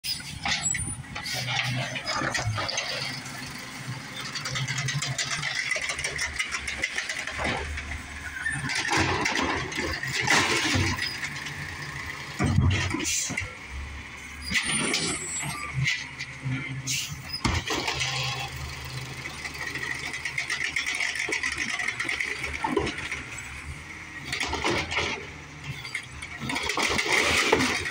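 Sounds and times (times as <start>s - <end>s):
garbage truck engine: 0.0s - 27.9s
trash carts clattering and banging: 0.0s - 27.9s.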